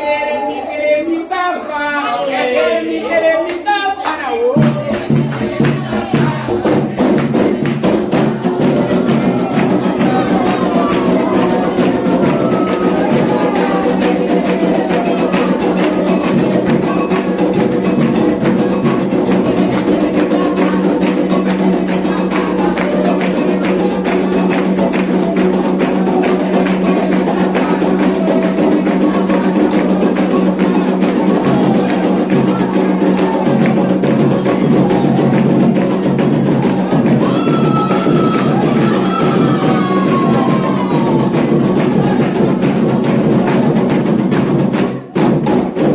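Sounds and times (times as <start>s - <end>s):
hand drums playing: 4.5s - 45.9s.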